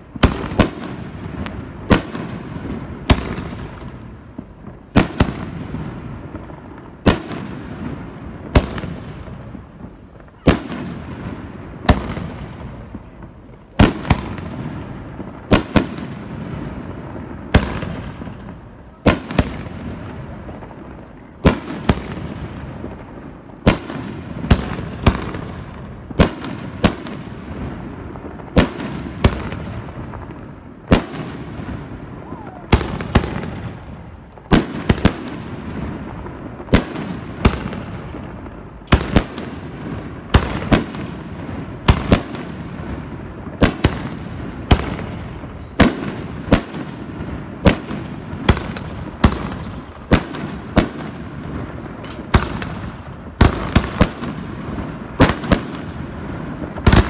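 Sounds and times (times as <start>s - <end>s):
firework bursts: 0.0s - 57.0s.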